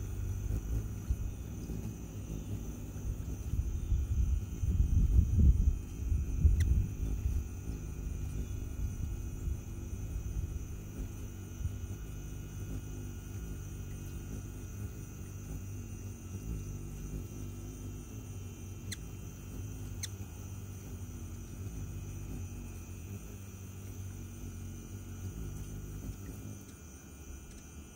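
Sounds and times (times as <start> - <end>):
hummingbird wings humming: 0.0 - 27.9.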